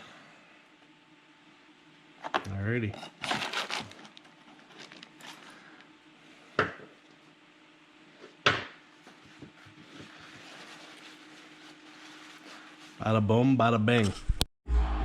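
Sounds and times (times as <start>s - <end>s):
faint steady hum: 0.0s - 14.4s.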